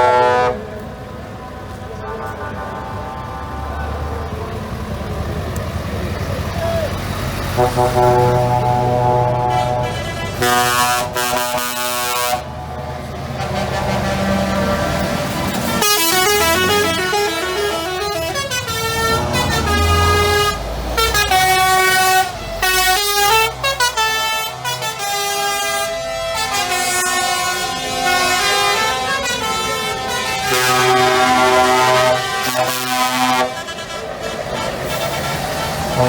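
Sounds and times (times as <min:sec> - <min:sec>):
truck air horns: 0:00.0 - 0:04.8, 0:06.6 - 0:36.0
diesel truck engines running: 0:00.0 - 0:36.0.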